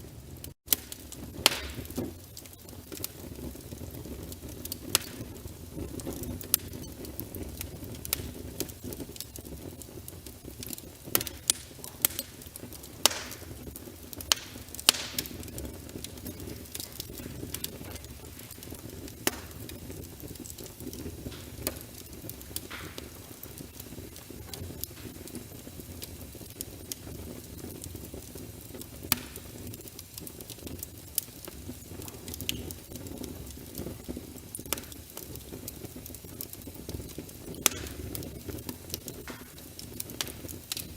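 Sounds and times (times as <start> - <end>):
fire crackles and sharp pops: 0.0 - 40.9
low rumble of flames: 0.0 - 40.9.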